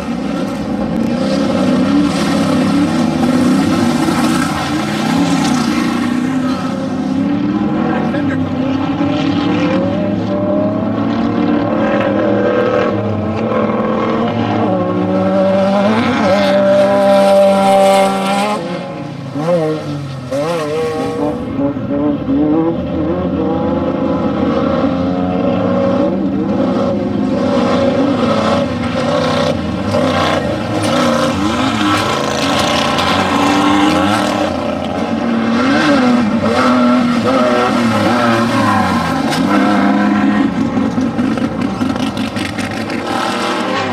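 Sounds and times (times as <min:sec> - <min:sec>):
race vehicle engines revving: 0:00.0 - 0:43.9.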